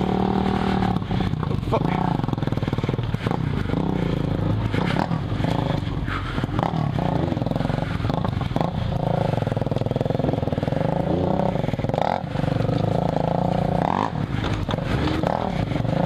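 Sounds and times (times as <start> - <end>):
knocks and clatter over bumps: 0.0 - 16.0
motorcycle engine running: 0.0 - 16.0.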